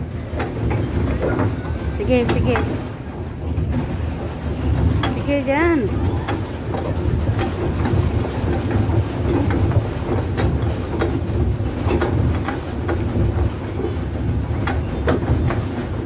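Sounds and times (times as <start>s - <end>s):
pedal boat churning water: 0.0s - 16.0s
mechanism clicks and knocks: 0.3s - 13.5s.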